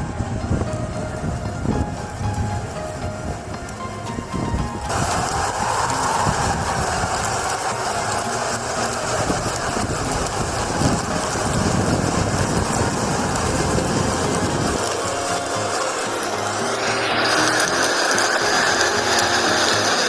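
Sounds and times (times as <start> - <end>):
avalanche rushing roar: 0.0 - 20.0.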